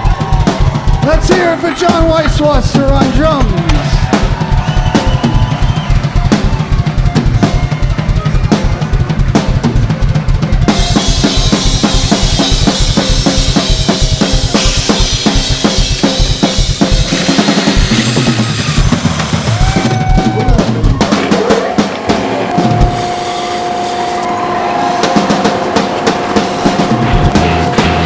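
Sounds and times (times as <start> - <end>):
drum-driven background music: 0.0 - 28.0.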